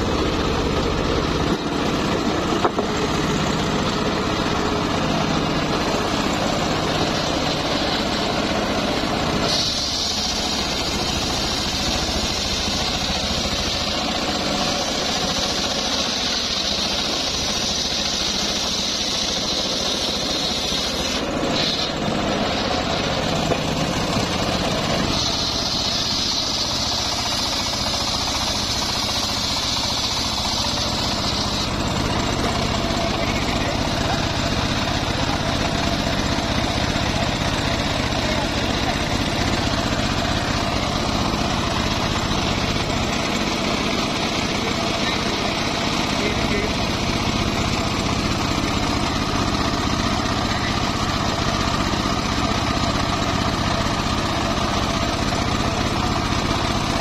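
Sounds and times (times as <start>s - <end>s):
saw blade cutting log whine: 0.0s - 57.0s
sawmill engine hum: 0.0s - 57.0s.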